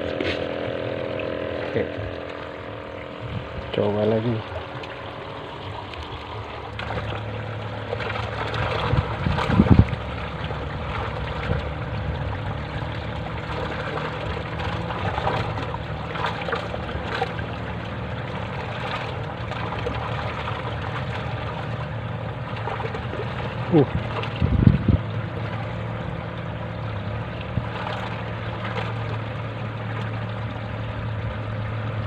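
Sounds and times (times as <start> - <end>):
low mechanical hum: 0.0 - 32.0
running and trickling water: 0.0 - 32.0.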